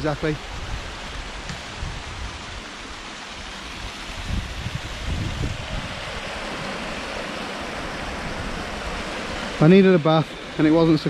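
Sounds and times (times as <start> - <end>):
waterfall splashing over rocks: 0.0 - 11.0
wind buffeting microphone: 0.3 - 9.6.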